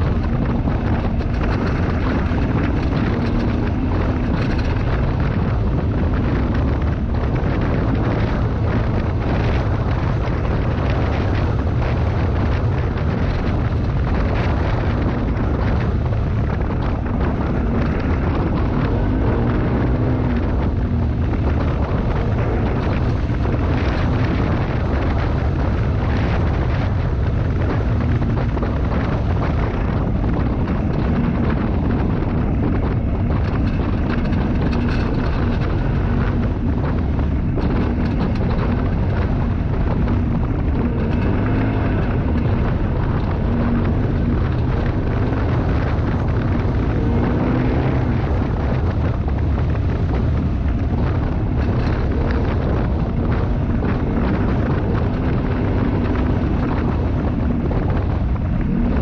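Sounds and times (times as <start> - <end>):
utility vehicle engine droning: 0.0 - 59.0
wind buffeting microphone: 0.0 - 59.0.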